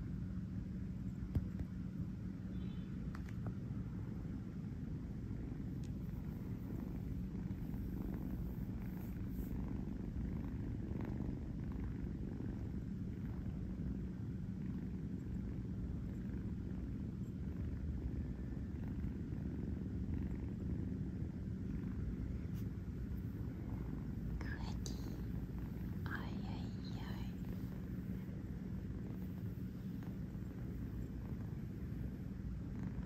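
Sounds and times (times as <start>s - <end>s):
kitten purring: 0.0s - 33.0s.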